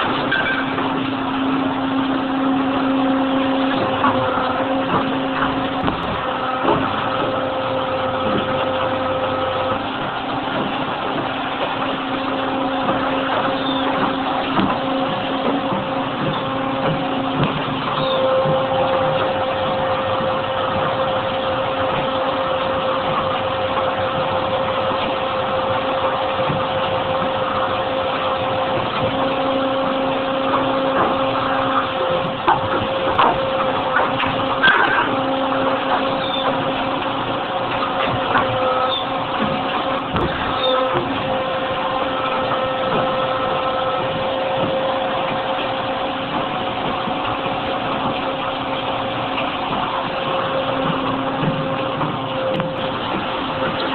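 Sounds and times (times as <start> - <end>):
injection molding machine hum: 0.0 - 53.9.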